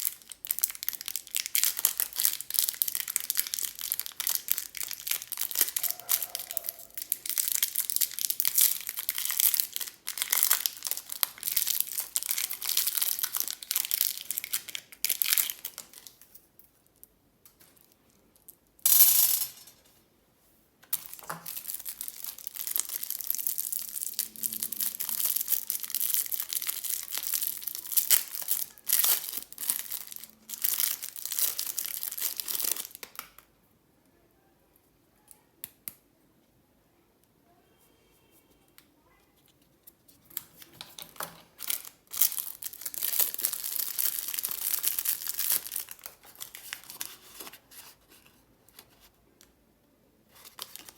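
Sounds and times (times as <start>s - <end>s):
candy packaging crinkling: 0.0s - 18.8s, 20.9s - 33.5s, 39.4s - 49.5s, 50.3s - 50.9s.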